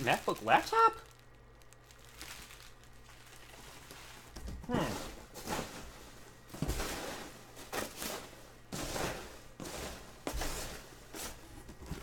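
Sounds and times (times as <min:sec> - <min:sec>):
packing peanuts rustling: 0:00.0 - 0:12.0.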